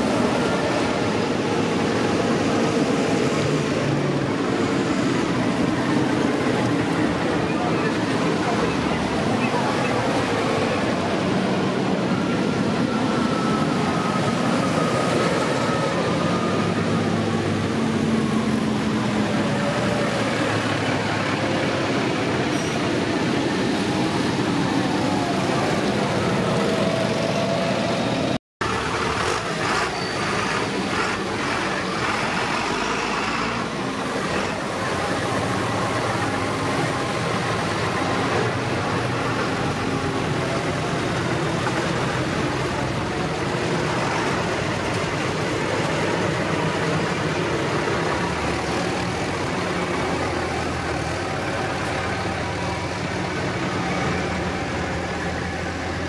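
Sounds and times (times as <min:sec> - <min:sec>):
tractor diesel engines passing: 0:00.0 - 0:56.0.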